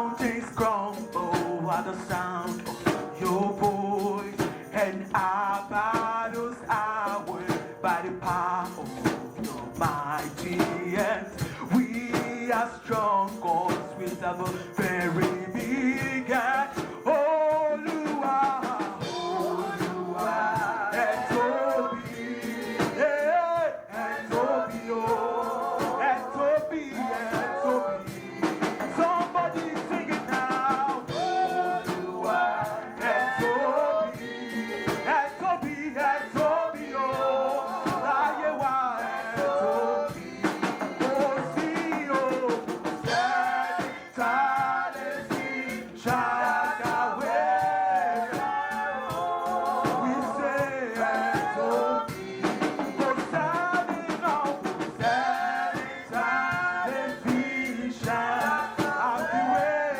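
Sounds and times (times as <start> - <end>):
band instruments: 0.0 - 59.9
drum kit: 0.0 - 59.9
voices singing: 0.0 - 59.9.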